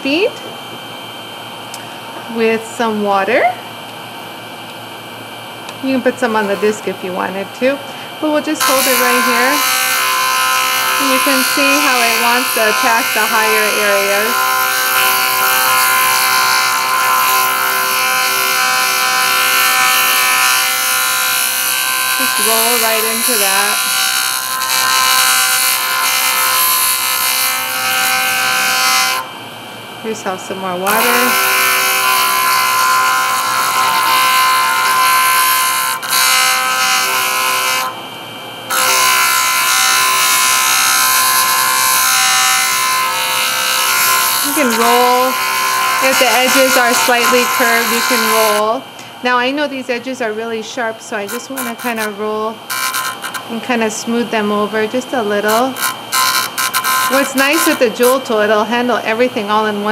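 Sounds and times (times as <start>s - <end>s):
sanding machine motor whine: 5.1s - 29.4s, 30.0s - 59.9s.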